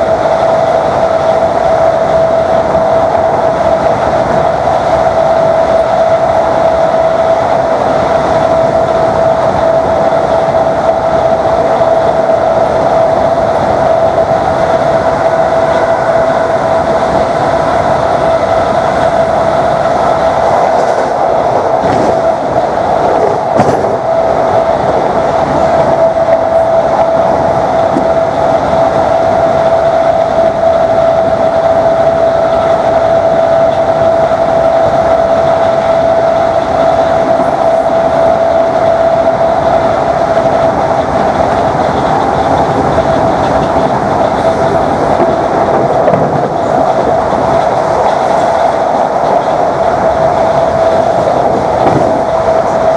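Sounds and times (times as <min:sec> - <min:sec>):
train motors whining: 0:00.0 - 0:52.9
train running noise: 0:00.0 - 0:52.9.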